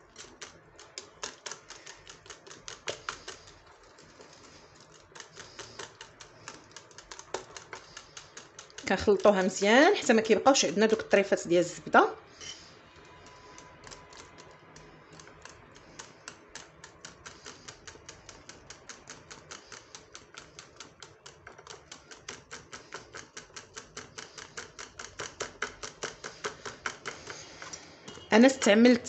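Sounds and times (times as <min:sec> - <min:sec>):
whisk clicking against ceramic bowl: 0:00.0 - 0:11.4, 0:12.4 - 0:29.0.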